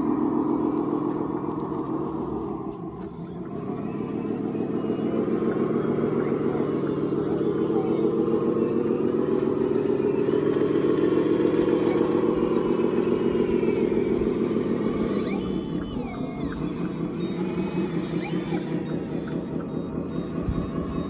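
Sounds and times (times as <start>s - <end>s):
model motor running: 0.0s - 21.0s.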